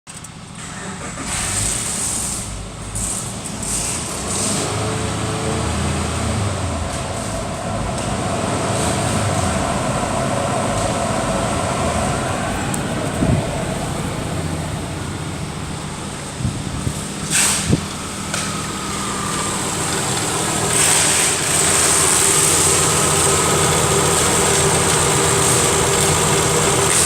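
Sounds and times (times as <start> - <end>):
car engine running: 0.2 - 27.0.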